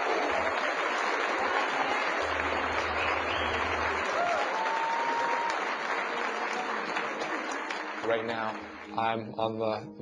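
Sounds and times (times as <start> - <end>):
crowd applauding and cheering: 0.0 - 9.2.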